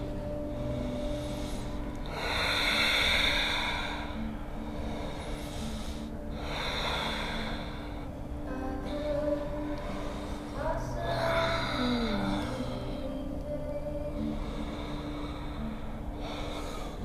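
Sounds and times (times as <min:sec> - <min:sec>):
slow deep breathing: 0:00.0 - 0:17.0
soft background music: 0:00.0 - 0:17.0.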